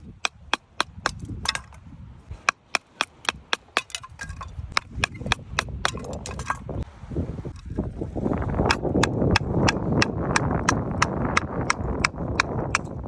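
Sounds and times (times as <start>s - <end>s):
sharp woody cracks: 0.0s - 6.6s, 8.6s - 13.0s.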